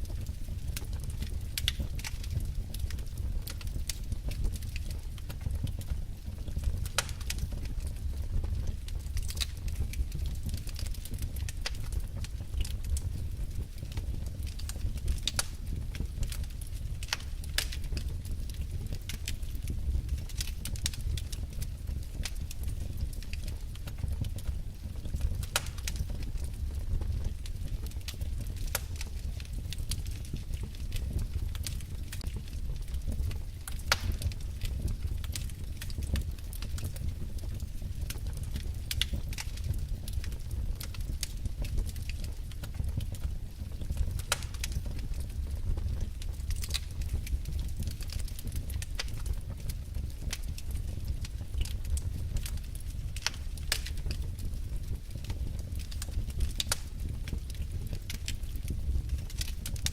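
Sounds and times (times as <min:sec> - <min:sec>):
logs crackling and popping: 0:00.0 - 0:59.9
rumble of flames: 0:00.0 - 0:59.9.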